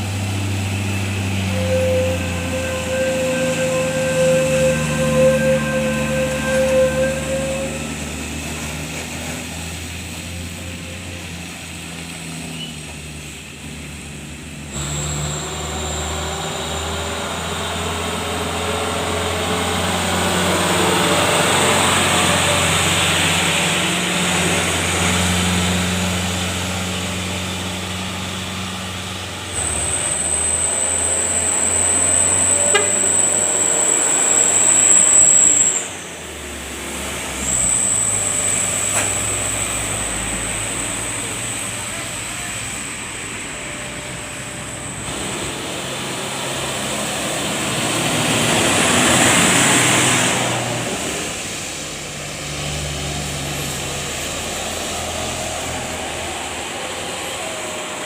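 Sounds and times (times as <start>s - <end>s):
high steady whine: 0.0s - 8.6s, 12.6s - 52.7s
trucks passing: 0.0s - 58.0s.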